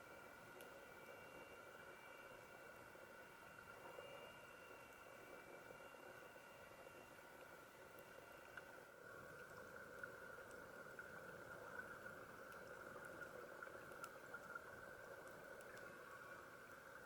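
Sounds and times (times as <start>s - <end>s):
faint underwater hum: 0.0s - 17.0s
faint clicks: 0.5s - 17.0s.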